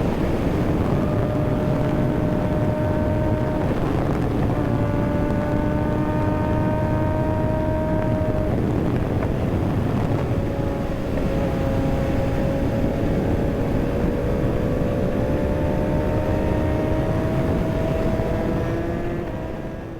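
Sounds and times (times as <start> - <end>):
motorcycle engine accelerating: 0.0 - 19.9
wind rush on microphone: 0.0 - 19.9.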